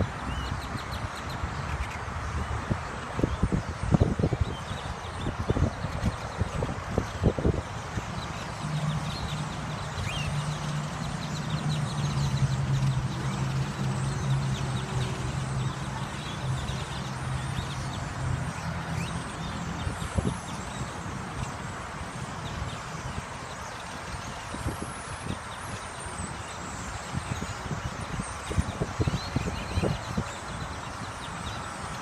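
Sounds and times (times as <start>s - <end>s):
birds chirping: 0.0s - 32.0s
constant background rush: 0.0s - 32.0s.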